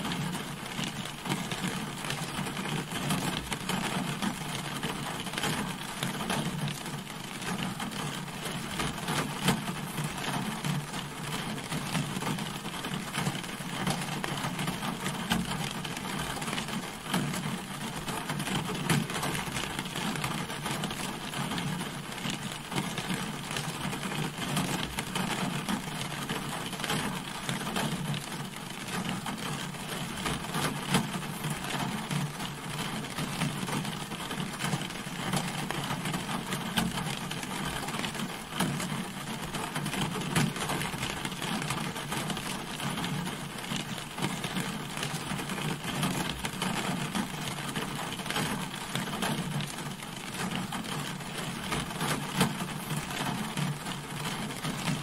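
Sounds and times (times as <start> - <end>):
rain pattering on car: 0.0 - 55.0.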